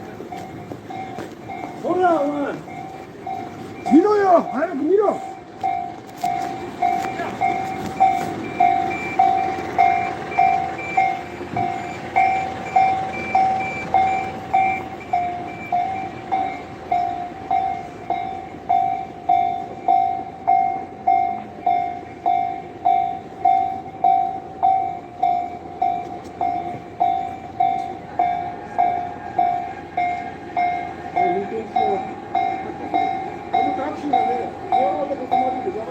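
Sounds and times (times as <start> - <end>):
railroad crossing bell dinging: 0.0 - 35.9.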